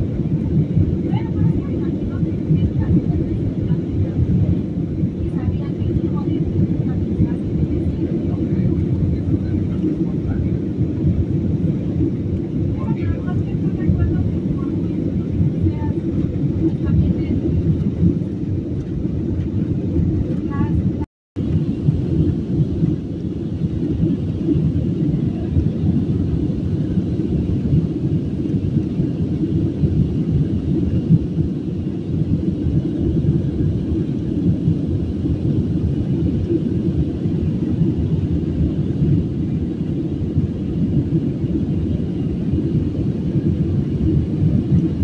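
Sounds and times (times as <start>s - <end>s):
jet cabin engine rumble: 0.0s - 45.0s.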